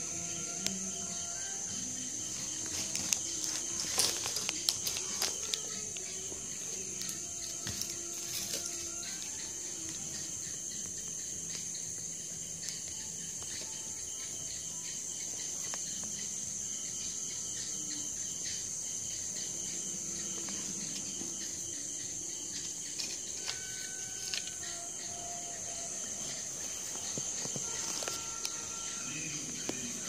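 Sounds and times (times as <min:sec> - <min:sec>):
high-pitched chirring drone: 0:00.0 - 0:30.0.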